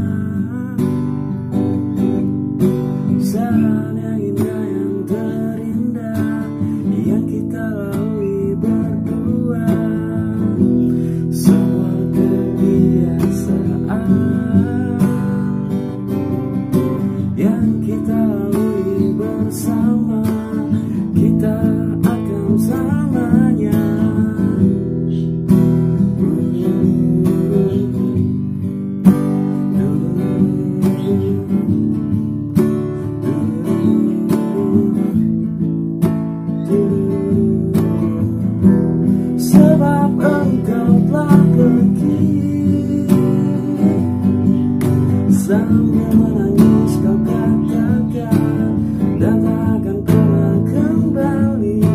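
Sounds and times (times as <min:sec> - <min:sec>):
acoustic guitar strumming: 0:00.0 - 0:51.9
man singing: 0:00.0 - 0:51.9.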